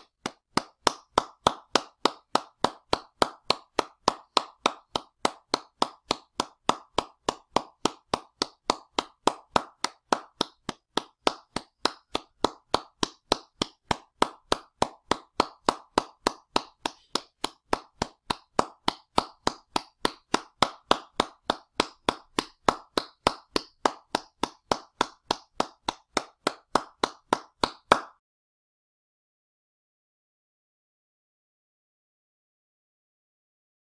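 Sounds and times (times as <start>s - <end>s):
hand clapping: 0.0s - 28.2s.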